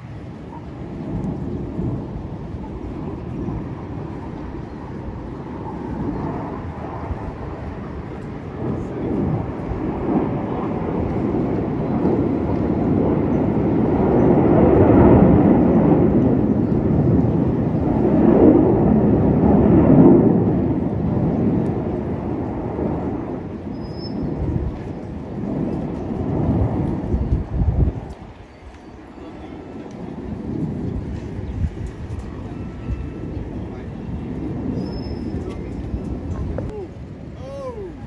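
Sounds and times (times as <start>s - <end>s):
jets flying past: 0.0s - 38.0s.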